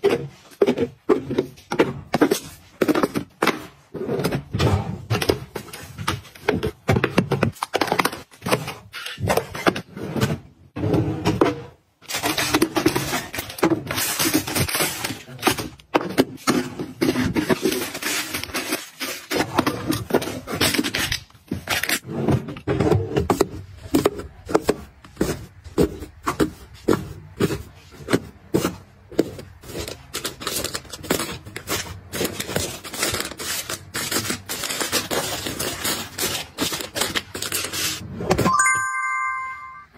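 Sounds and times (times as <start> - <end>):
items clicking and knocking: 0.0 - 38.5
items scraping: 0.0 - 38.6.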